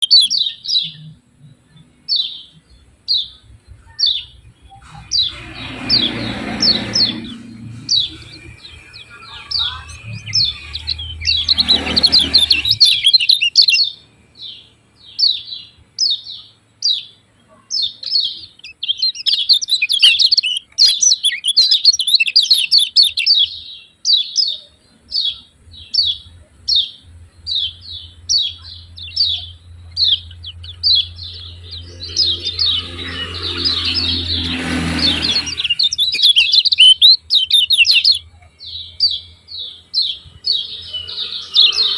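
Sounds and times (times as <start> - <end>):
bird chirping rapidly: 0.0 - 41.9.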